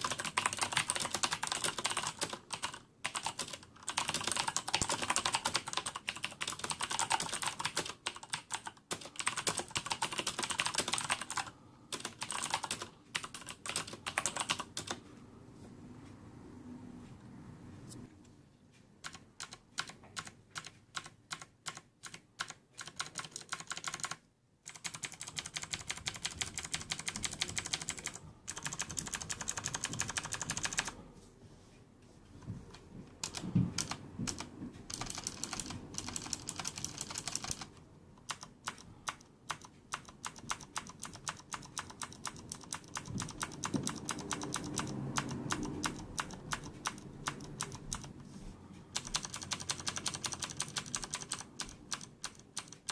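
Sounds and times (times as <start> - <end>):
clicky mechanical keyboard typing: 0.0 - 15.0, 19.0 - 31.0, 32.7 - 48.2, 48.9 - 52.9.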